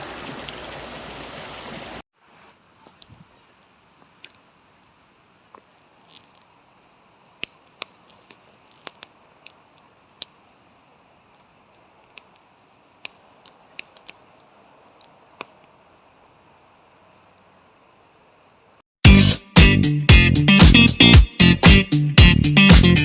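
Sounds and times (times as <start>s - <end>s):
faint steady hiss: 0.0s - 18.8s.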